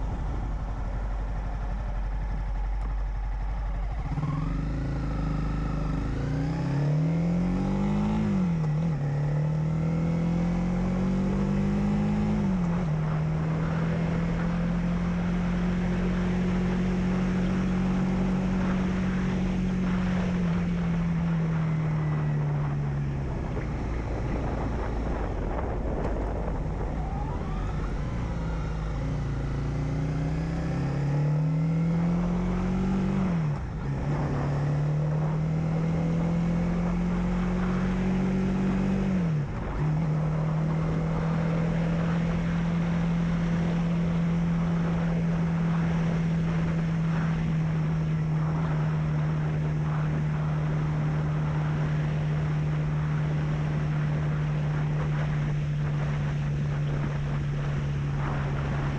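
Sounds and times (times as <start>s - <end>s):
motorcycle engine accelerating: 0.0s - 58.9s
wind rushing over microphone: 0.0s - 58.9s.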